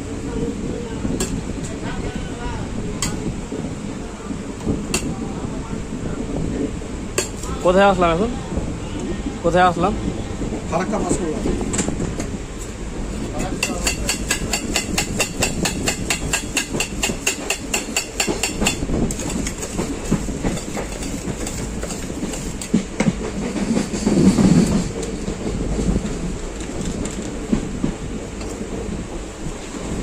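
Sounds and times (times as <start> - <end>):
train carriage noise: 0.0 - 30.0.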